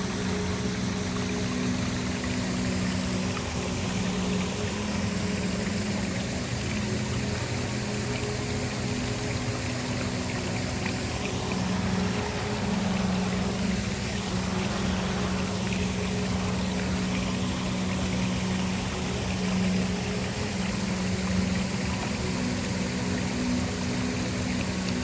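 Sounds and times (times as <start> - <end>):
ambient music drone: 0.0 - 25.0
waterfall falling: 0.0 - 25.0.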